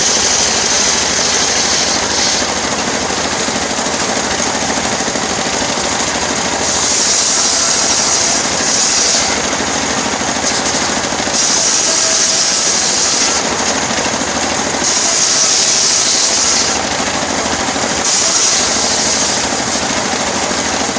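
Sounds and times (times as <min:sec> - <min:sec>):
saw blade cutting wood: 0:00.0 - 0:20.9
sawmill engine drone: 0:00.0 - 0:20.9.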